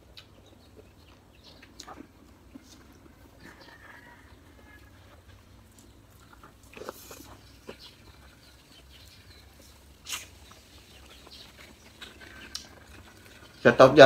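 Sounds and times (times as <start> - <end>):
chewing with small smacks: 0.0 - 13.6.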